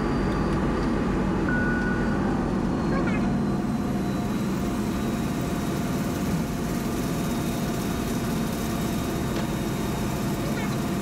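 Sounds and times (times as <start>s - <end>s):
faint steady whine: 0.0s - 11.0s
turboprop engine droning: 0.0s - 11.0s.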